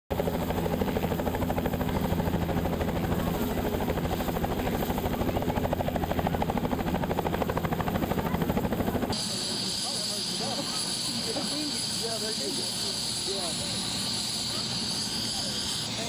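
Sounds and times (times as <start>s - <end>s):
helicopter engine hum: 0.1s - 16.0s
helicopter rotor beating: 0.1s - 16.0s.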